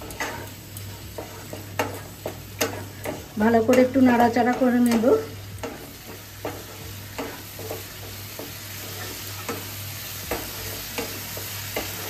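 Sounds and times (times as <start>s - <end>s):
spatula scraping a pan: 0.0s - 12.0s
spice paste sizzling: 0.0s - 12.0s.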